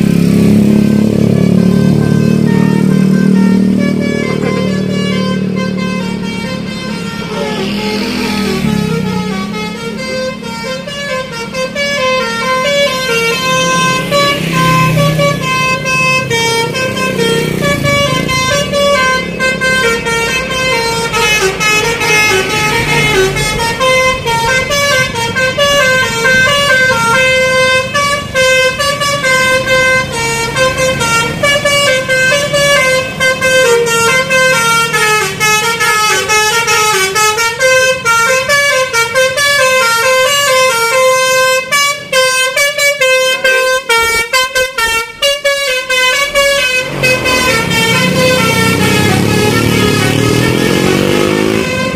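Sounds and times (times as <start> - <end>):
bus engine rumbling: 0.0 - 51.9
musical bus horn melody: 0.0 - 51.9.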